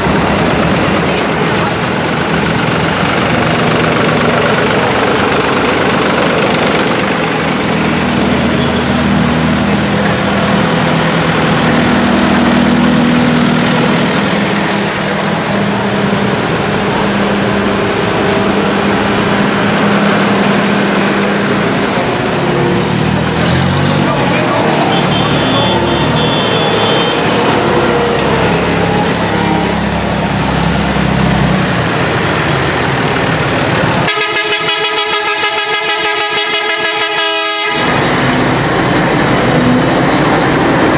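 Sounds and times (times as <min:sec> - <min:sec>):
tractor diesel engines passing: 0:00.0 - 0:40.9.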